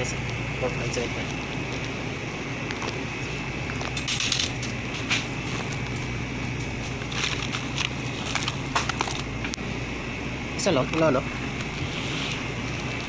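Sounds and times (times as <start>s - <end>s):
steady background hum: 0.0s - 13.0s
plastic wrap crinkling: 0.2s - 9.3s, 11.2s - 13.0s.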